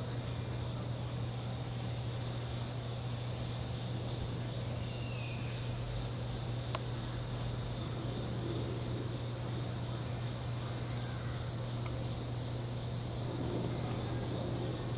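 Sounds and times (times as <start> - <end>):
constant low hum: 0.0 - 14.9
high-pitched insect drone: 2.7 - 14.9.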